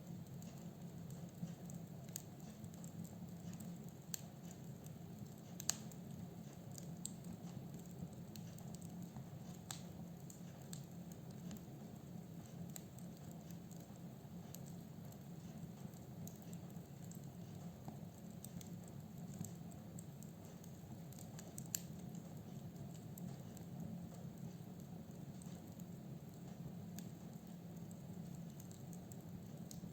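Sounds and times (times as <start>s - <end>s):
firewood crackling and popping: 0.0s - 29.9s
low rumble of flames: 0.0s - 29.9s.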